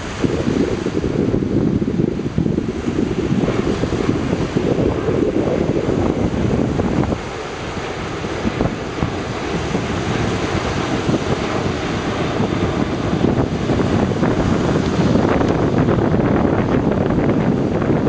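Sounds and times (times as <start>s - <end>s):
jet airliner engines rumbling: 0.0s - 18.0s
surf breaking on beach: 0.0s - 18.0s
wind buffeting microphone: 0.0s - 18.0s.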